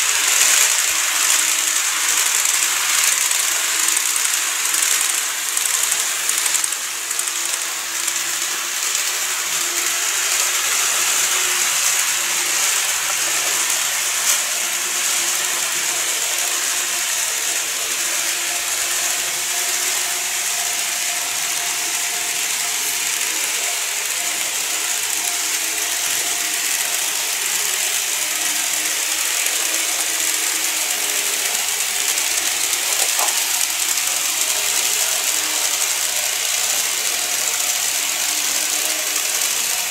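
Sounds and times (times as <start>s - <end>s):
model train motor whirring: 0.0s - 39.9s.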